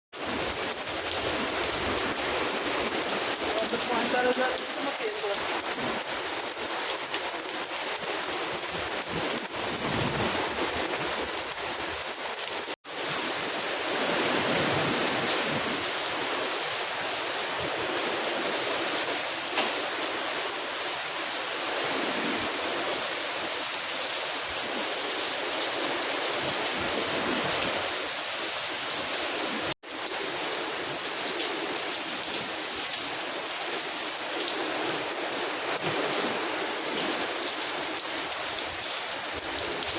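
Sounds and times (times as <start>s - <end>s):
rain falling: 0.1s - 39.9s.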